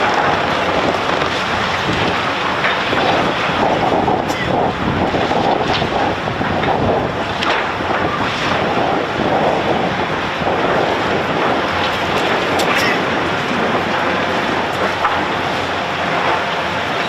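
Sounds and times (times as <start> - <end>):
construction machinery rushing noise: 0.0 - 17.0.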